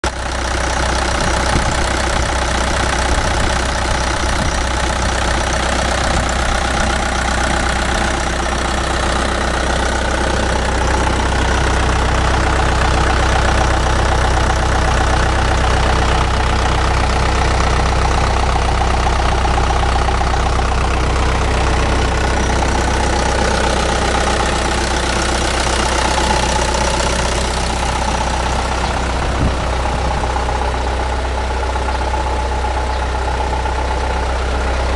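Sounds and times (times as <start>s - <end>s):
diesel engine running steadily: 0.0s - 34.9s.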